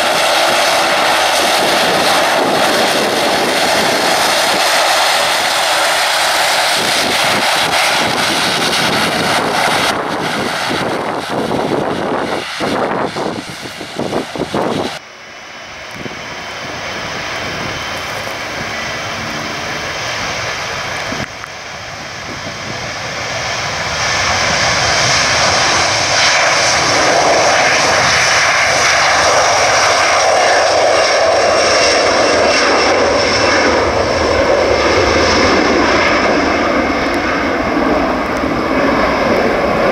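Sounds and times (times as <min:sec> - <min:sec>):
jet engines roaring with whine: 0:00.0 - 0:39.9
turboprop engines fluttering: 0:00.0 - 0:39.9.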